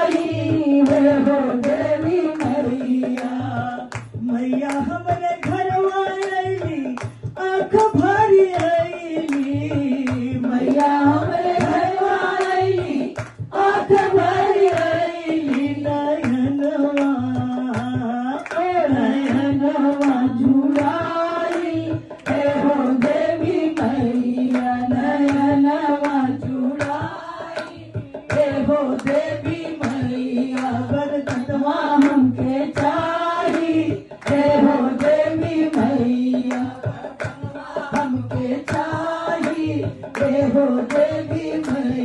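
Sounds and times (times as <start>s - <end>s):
hand claps: 0.0s - 42.0s
hand drum beat: 0.0s - 42.0s
women singing devotional song: 0.0s - 42.0s.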